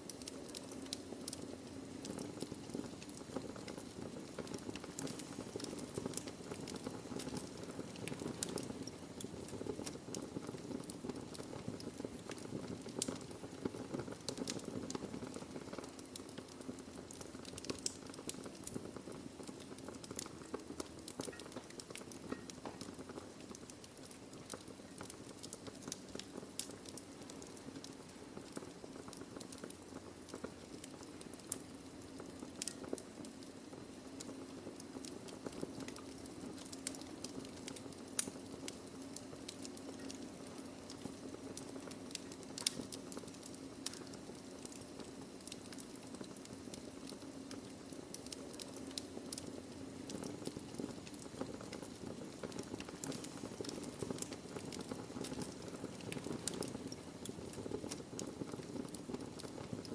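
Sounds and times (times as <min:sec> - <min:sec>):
fire hissing: 0:00.0 - 0:59.9
logs crackling and popping: 0:00.0 - 0:59.9.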